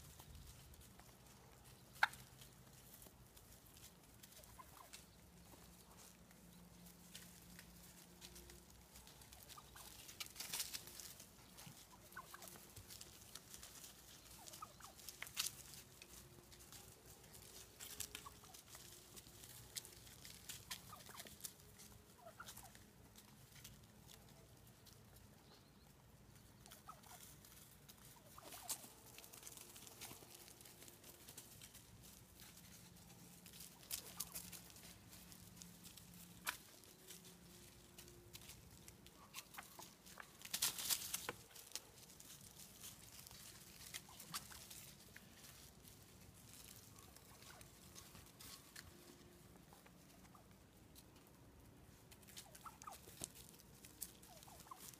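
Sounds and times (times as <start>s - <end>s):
beaks pecking at ground: 0.0s - 54.9s
soft turkey calls: 0.0s - 54.9s.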